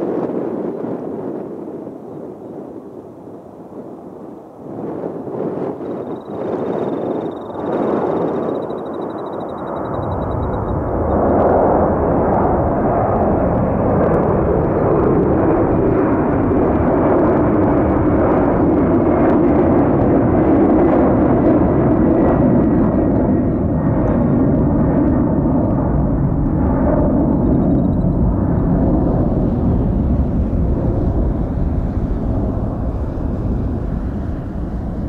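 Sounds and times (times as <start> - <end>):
jet engines rumbling: 0.0 - 35.0
high engine whine: 5.2 - 35.0.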